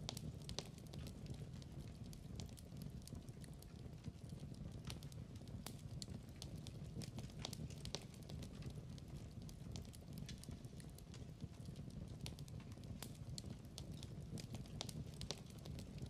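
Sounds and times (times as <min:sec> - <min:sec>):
log fire crackling: 0:00.0 - 0:16.0
low rumble of flames: 0:00.0 - 0:16.0.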